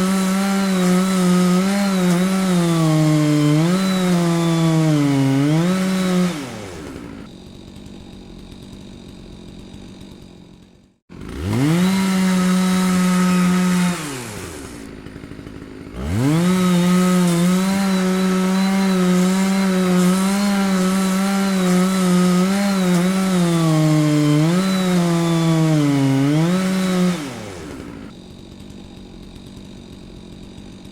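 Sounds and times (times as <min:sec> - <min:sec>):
chainsaw engine revving: 0:00.0 - 0:30.9.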